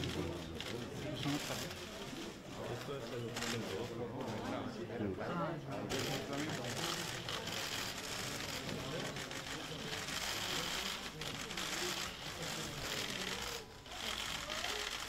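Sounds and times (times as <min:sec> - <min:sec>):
people talking indistinctly: 0:00.0 - 0:15.0.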